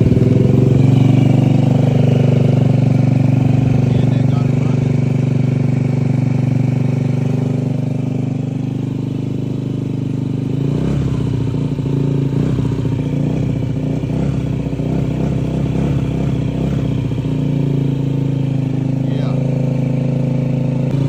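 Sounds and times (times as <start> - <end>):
scooter engine running unevenly: 0.0 - 21.0.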